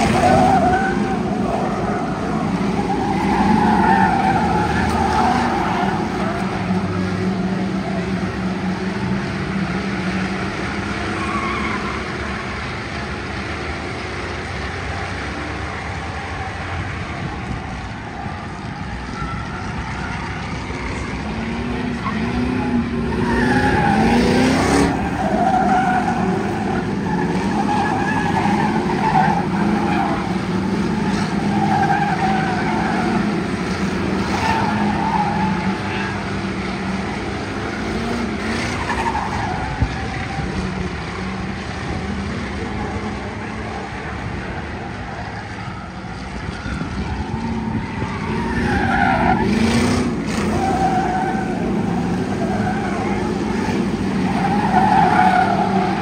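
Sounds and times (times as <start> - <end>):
race car engines: 0.0 - 56.0
tyres skidding: 0.0 - 56.0.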